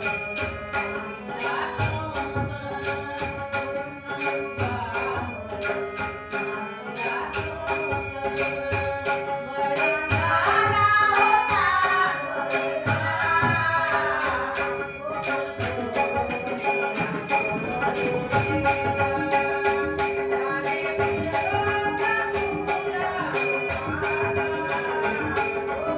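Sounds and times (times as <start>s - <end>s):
fast tabla rhythm: 0.0s - 25.9s
harmonium holding tones: 0.0s - 25.9s
jingling percussion: 0.0s - 25.9s
woman singing: 0.0s - 25.9s.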